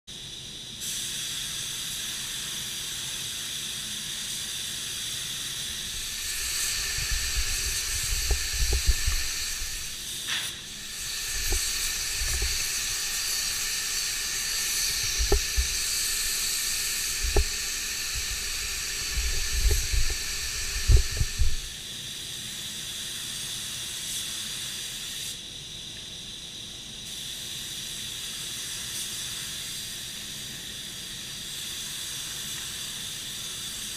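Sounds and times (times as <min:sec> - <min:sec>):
paint spray gun hissing: 0:00.1 - 0:33.9
steady background hiss: 0:00.1 - 0:33.9.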